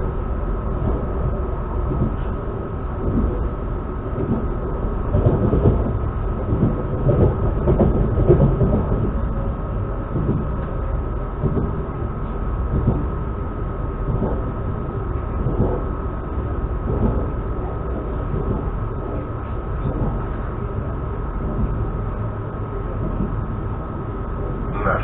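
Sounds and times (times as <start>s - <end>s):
constant high whine: 0.0s - 25.0s
train wheels rumbling on track: 0.0s - 25.0s.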